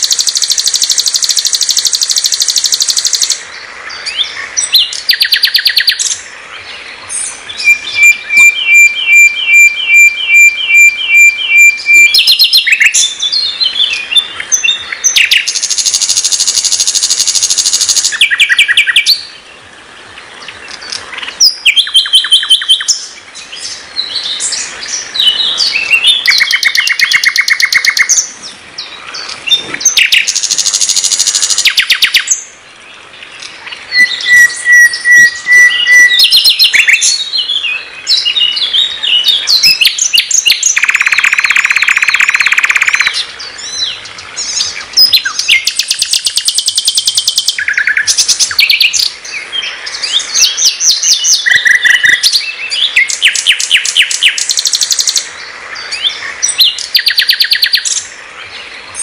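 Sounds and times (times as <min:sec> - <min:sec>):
nightingale singing: 0:00.0 - 0:59.0.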